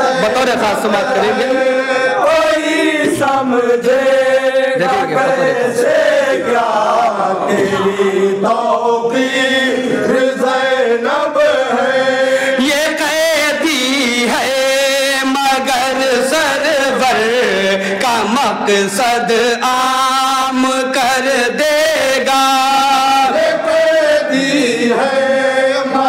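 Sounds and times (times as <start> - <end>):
men chanting in chorus: 0.0 - 26.0.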